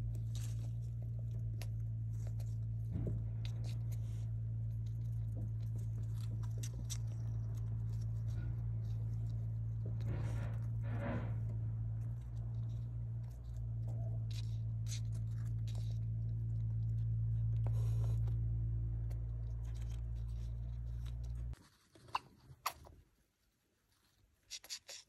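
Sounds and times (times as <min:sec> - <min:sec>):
hamster rustling cardboard: 0:00.0 - 0:23.1
low electrical hum: 0:00.0 - 0:25.0.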